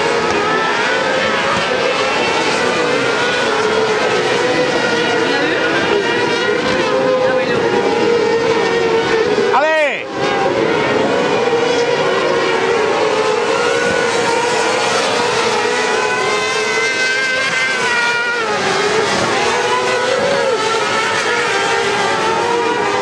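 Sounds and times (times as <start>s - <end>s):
racing kart engines revving: 0.0s - 23.0s.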